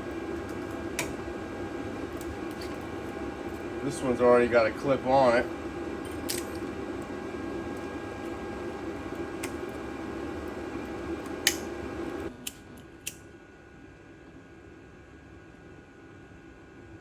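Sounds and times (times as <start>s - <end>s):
steady hum: 0.0s - 14.2s.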